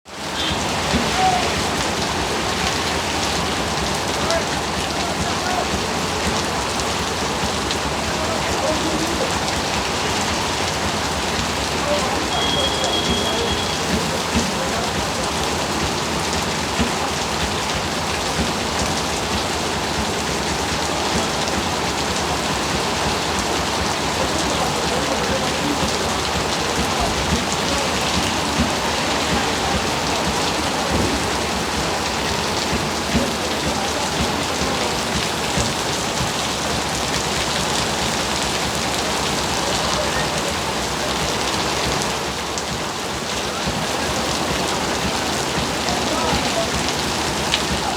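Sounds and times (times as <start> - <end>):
heavy rain falling: 0.1 - 47.9.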